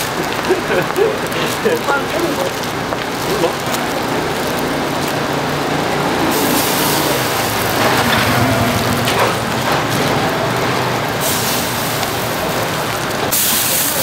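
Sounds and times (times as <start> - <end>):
pancakes sizzling in oil: 0.0 - 14.0.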